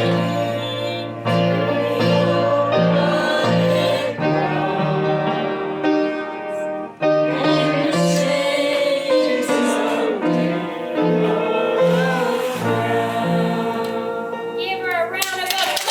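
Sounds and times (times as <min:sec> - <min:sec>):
person singing: 0:00.0 - 0:06.6, 0:07.3 - 0:14.6
piano chords: 0:00.0 - 0:15.9.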